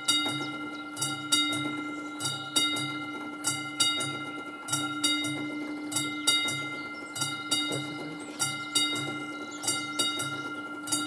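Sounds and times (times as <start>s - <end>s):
level crossing warning bell ringing: 0.0s - 11.0s.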